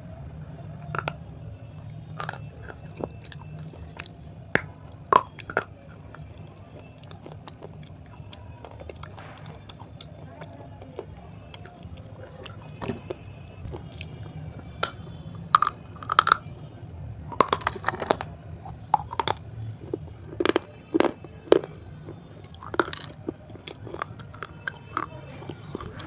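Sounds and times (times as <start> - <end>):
dry clay being chewed: 0.5 - 26.0.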